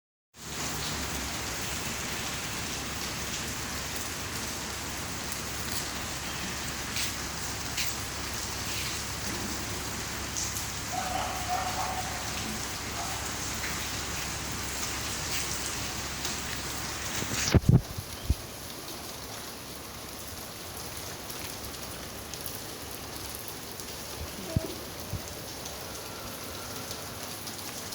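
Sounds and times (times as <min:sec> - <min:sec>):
steady rain falling: 0:00.4 - 0:27.9.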